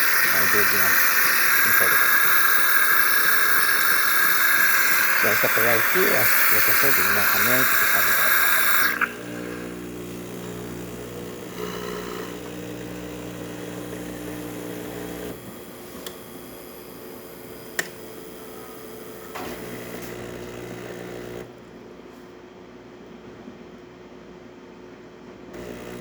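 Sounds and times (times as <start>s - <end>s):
espresso machine motor humming: 0.0s - 21.5s, 25.6s - 26.0s.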